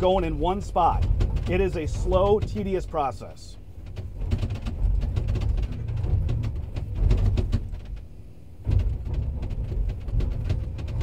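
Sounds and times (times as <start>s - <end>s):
knocks and grinding: 0.0s - 11.0s.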